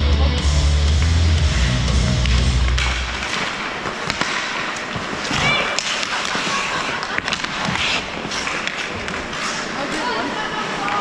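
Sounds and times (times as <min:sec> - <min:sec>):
sticks and puck clacking: 0:00.9 - 0:11.0
skate blades scraping ice: 0:01.5 - 0:11.0.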